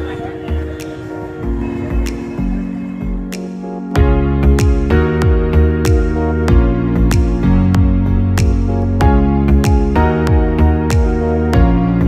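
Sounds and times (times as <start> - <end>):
soft chords over a beat: 0.0 - 12.0.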